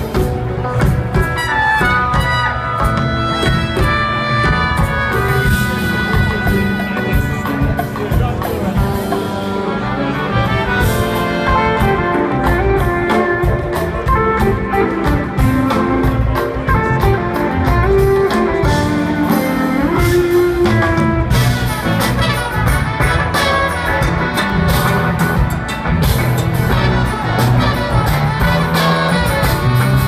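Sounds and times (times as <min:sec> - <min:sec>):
live jazz fusion band: 0:00.0 - 0:30.0.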